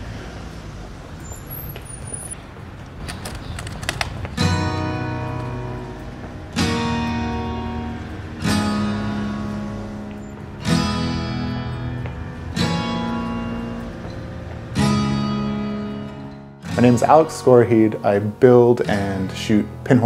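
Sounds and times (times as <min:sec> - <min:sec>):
acoustic guitar strums: 0:03.4 - 0:20.0.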